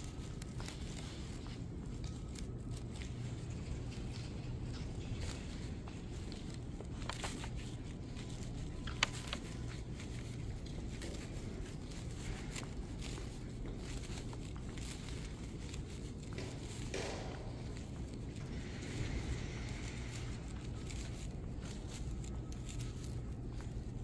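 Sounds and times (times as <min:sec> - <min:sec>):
footsteps on stone tiles: 0:00.0 - 0:24.0
low room hum: 0:00.0 - 0:24.0.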